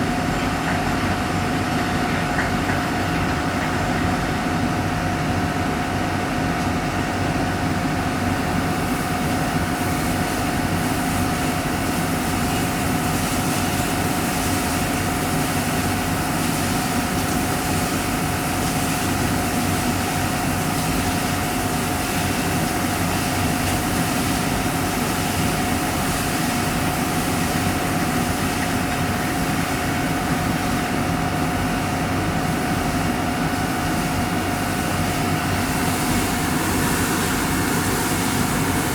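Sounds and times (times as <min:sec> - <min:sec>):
drilling rig engine running: 0:00.0 - 0:38.9.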